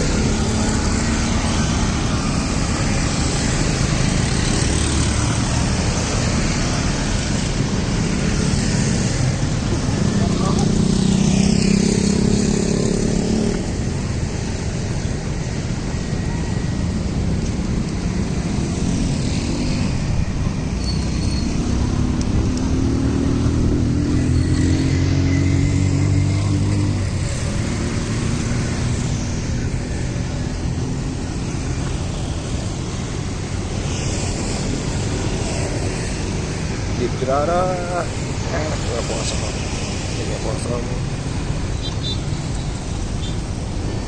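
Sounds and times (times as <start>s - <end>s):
vehicles passing: 0.0s - 44.0s.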